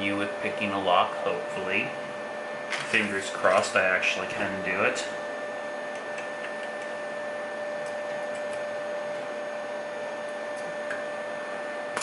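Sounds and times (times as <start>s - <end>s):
three d printer whirring: 0.0s - 12.0s.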